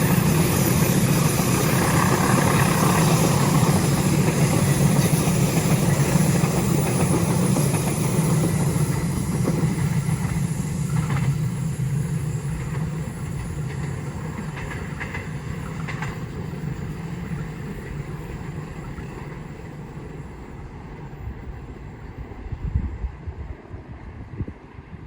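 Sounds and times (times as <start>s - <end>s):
train cars rumbling on rails: 0.0s - 25.0s.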